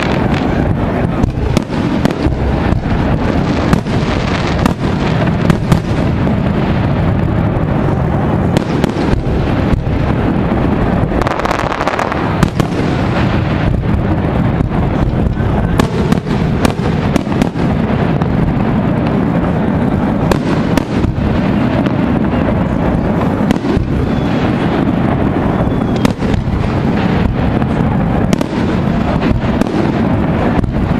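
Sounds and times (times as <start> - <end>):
continuous low noise: 0.0 - 30.9
fireworks bangs and crackles: 0.0 - 30.9.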